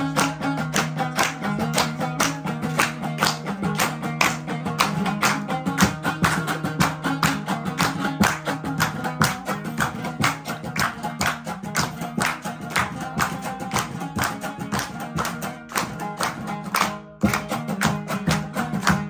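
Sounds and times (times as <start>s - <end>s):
group clapping along: 0.0s - 19.0s
lute strummed in folk rhythm: 0.0s - 19.0s.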